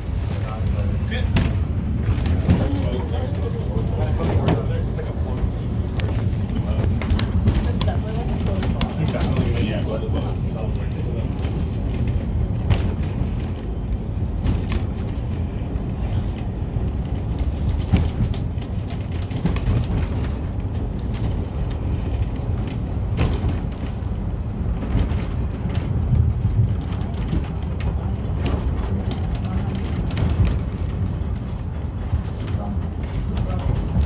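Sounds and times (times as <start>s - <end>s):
funicular car rumbling: 0.0s - 34.0s.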